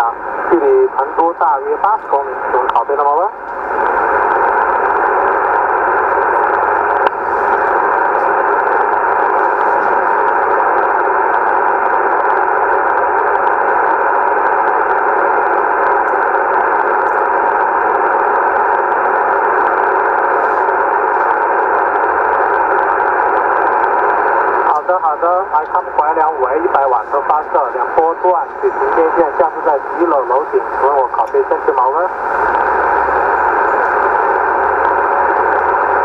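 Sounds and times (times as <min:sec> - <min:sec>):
radio static hiss: 0:00.0 - 0:36.0.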